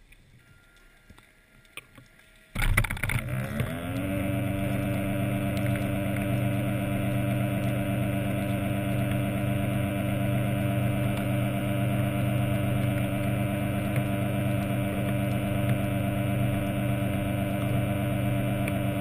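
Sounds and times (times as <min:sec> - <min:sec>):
underwater scooter motor droning: 0:02.0 - 0:19.0.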